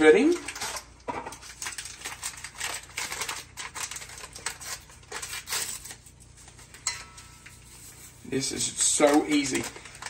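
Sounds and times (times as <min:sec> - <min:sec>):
packet crinkling and rustling: 0:00.1 - 0:06.8, 0:07.4 - 0:10.0.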